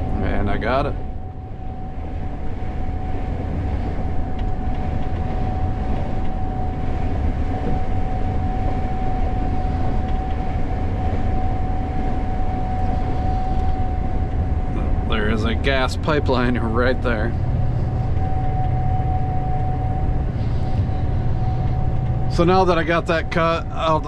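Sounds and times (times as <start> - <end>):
combine harvester rumbling: 0.0 - 24.0
steady machine whine: 0.0 - 24.0.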